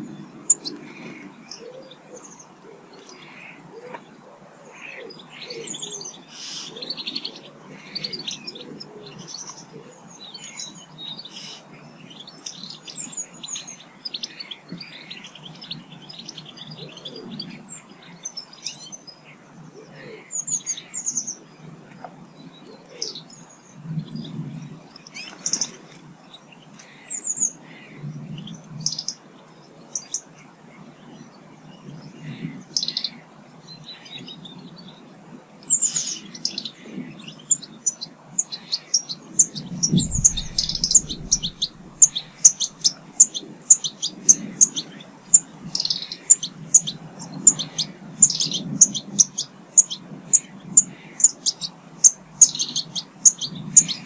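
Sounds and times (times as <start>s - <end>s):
lower bird calls: 0.0s - 26.0s, 35.7s - 54.0s
birds chirping and trilling: 0.0s - 54.0s.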